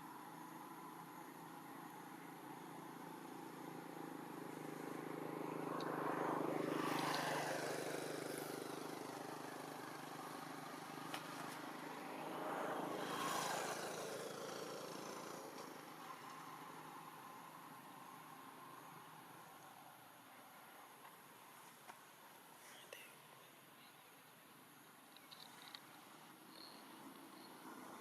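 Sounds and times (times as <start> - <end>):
vehicles passing by: 0.0 - 21.4, 25.0 - 28.0.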